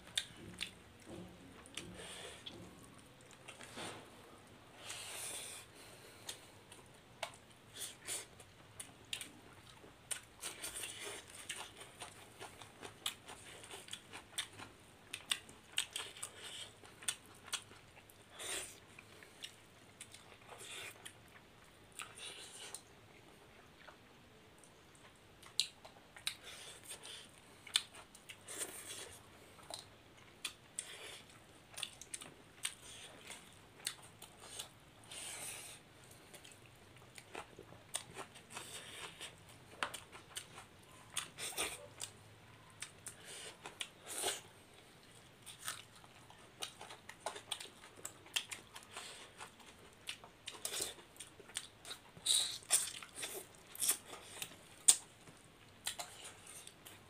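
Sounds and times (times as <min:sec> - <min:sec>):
people chewing and crunching: 0:00.0 - 0:57.0.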